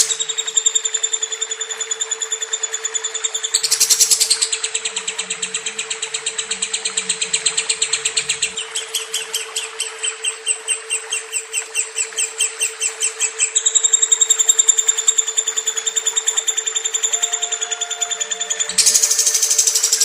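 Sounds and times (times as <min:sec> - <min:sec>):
lovebird chirping trill: 0:03.3 - 0:20.0.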